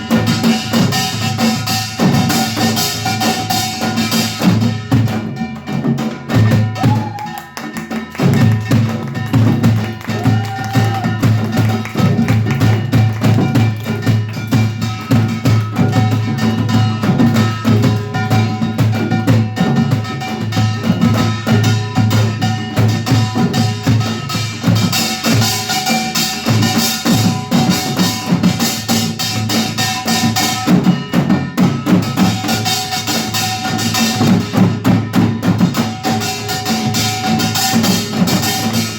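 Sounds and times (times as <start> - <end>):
barrel drum: 0.0 - 38.9
hourglass drums: 0.0 - 38.9
small gongs: 0.0 - 38.9.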